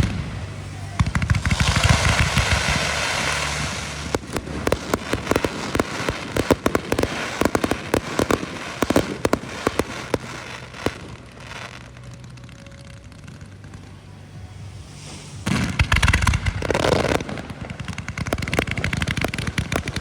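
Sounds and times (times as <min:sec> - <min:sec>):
fireworks hiss: 0:00.0 - 0:20.0
fireworks popping and crackling: 0:00.0 - 0:20.0.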